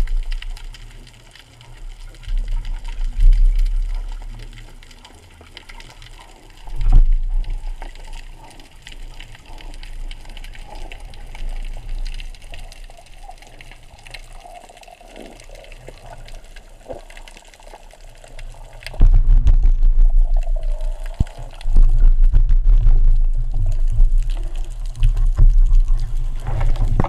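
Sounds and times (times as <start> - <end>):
faint clicks and crackles: 0.0 - 27.0
muffled underwater rumbling wash: 0.0 - 27.0.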